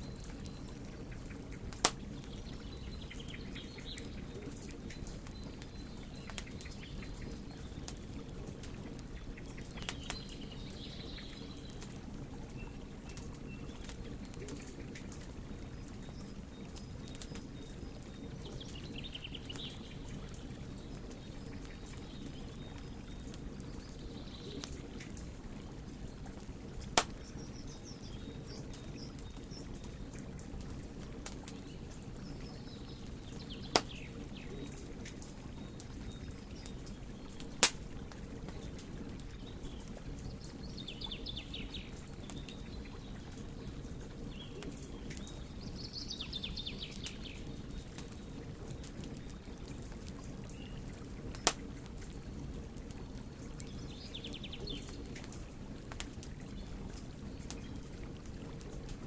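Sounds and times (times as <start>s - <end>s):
faint birds chirping: 0.0s - 58.9s
wood fire crackling and popping: 0.0s - 59.0s.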